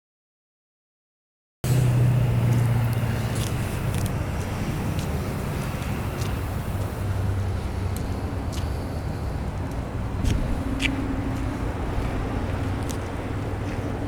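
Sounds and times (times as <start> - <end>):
engine running low hum: 1.6 - 14.0.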